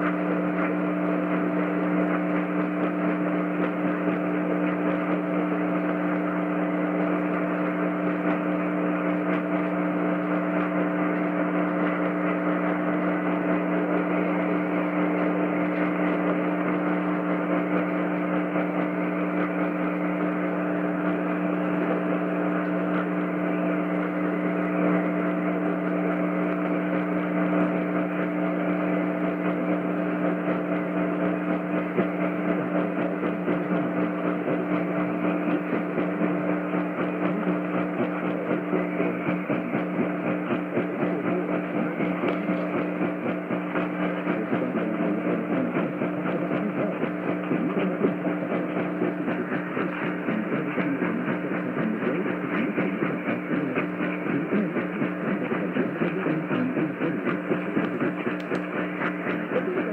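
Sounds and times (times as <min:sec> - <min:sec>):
electrical hum: 0:00.0 - 0:59.9
radio hiss: 0:00.0 - 0:59.9.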